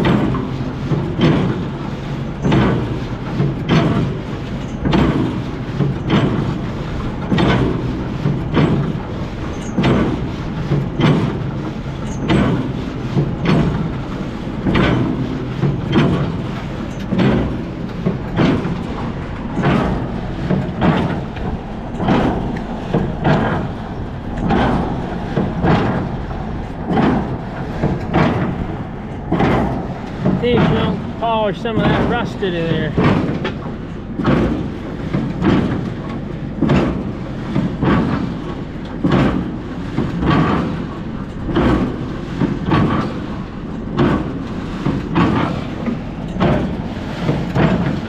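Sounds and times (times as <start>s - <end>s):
tractor engine drone: 0.0s - 48.0s.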